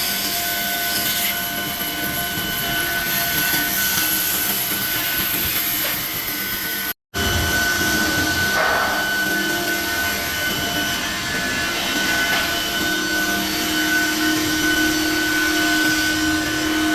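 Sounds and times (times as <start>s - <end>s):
woodworking machine motor whine: 0.0s - 16.9s.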